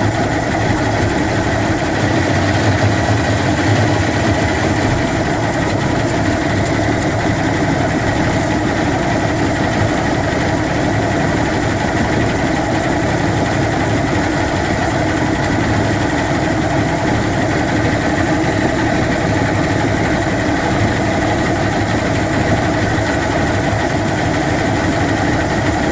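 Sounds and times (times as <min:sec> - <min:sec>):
intermittent rattle: 0:00.0 - 0:25.9
outboard motor running: 0:00.0 - 0:25.9.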